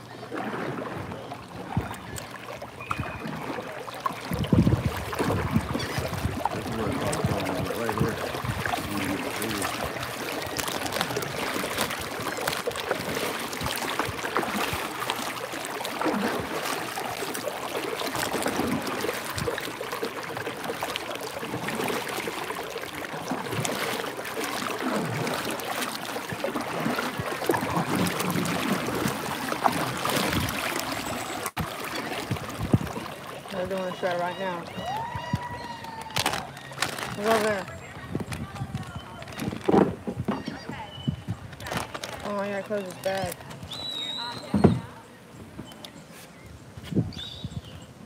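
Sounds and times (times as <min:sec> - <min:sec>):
paddle splashing water: 0:00.0 - 0:48.0
water lapping against hull: 0:00.0 - 0:48.0.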